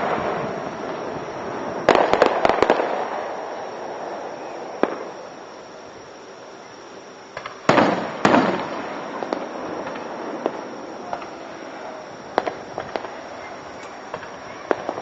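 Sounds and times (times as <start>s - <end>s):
fireworks bursting: 0.0s - 15.0s
fireworks crackling and popping: 0.0s - 15.0s.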